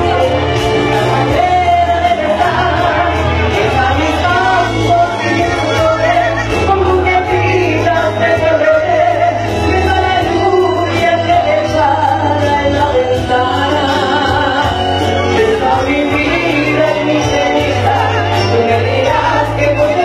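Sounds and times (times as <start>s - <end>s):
amplified backing music with bass: 0.0s - 20.0s
woman singing into microphone: 0.0s - 20.0s.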